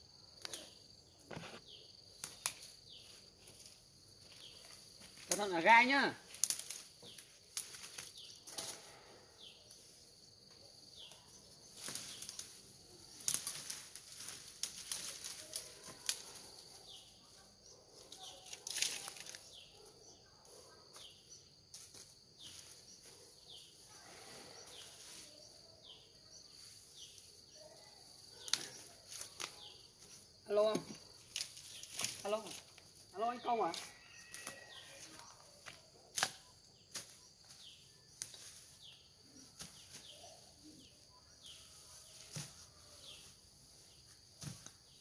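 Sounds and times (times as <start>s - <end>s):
dry branches rustling and crackling: 0.4s - 17.2s, 18.0s - 19.8s, 20.9s - 45.0s.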